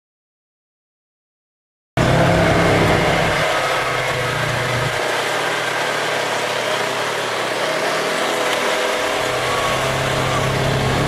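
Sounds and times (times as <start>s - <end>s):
utility vehicle engine running: 2.0s - 11.0s.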